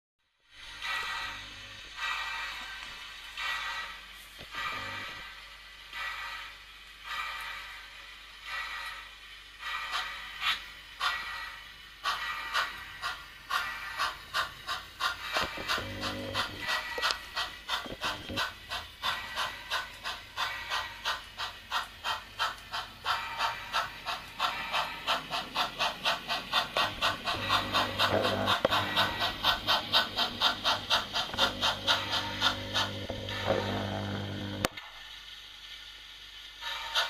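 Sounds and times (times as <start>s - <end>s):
model steam locomotive chuffing: 0.4s - 37.0s.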